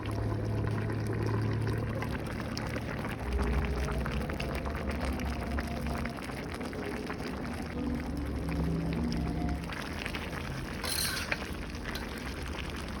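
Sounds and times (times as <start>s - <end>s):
food bubbling in a pot: 0.0s - 13.0s.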